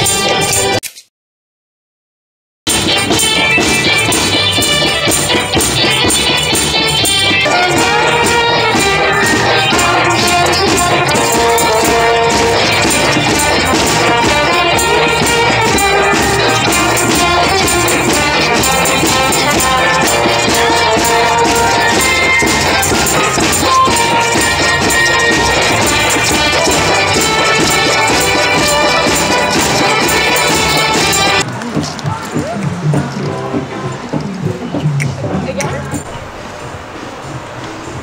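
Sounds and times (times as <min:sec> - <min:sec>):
maracas shaken: 0:00.0 - 0:00.8, 0:02.7 - 0:36.3
sustained melody line: 0:02.7 - 0:38.0.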